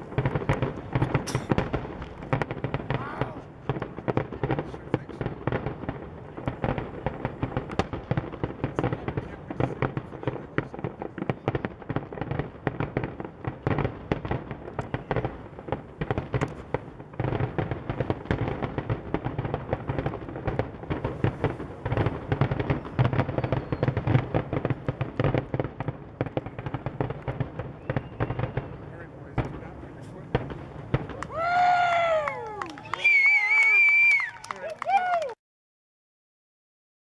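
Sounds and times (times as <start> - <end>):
fireworks booming and crackling: 0.0 - 35.2.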